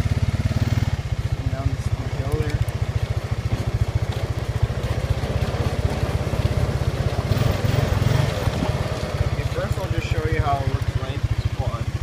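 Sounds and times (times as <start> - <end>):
atv engine throbbing: 0.0 - 12.0.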